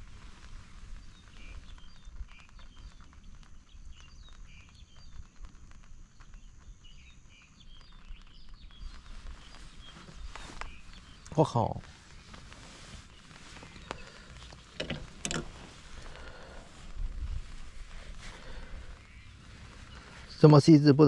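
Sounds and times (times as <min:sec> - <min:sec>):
low outdoor rumble: 0:00.0 - 0:21.0
birds chirping: 0:00.6 - 0:21.0.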